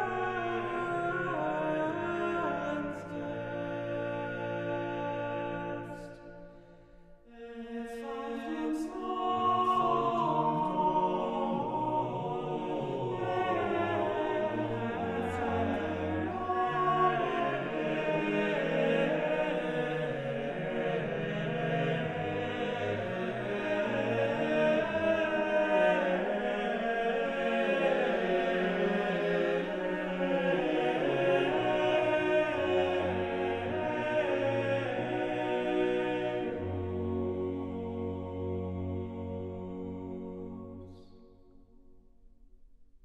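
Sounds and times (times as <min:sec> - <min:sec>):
choir singing long held notes: 0:00.0 - 0:41.5.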